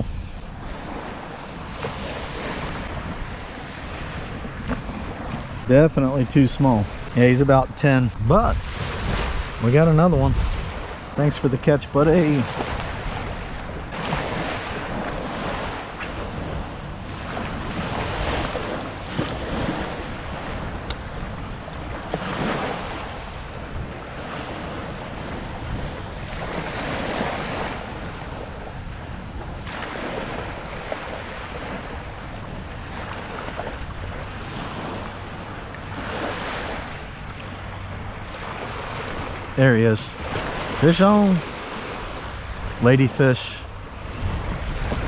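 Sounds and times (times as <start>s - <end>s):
surf breaking on beach: 0.0s - 37.1s, 38.0s - 45.0s
wind rumbling on microphone: 0.0s - 45.0s.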